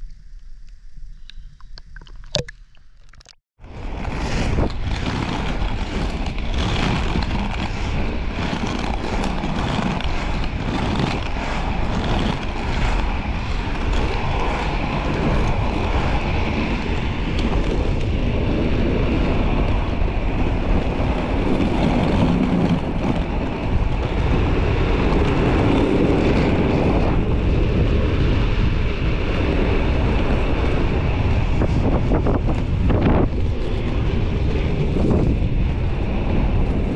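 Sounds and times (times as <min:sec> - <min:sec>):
skate wheels rolling on asphalt: 0:03.6 - 0:36.9
wind buffeting microphone: 0:03.6 - 0:36.9.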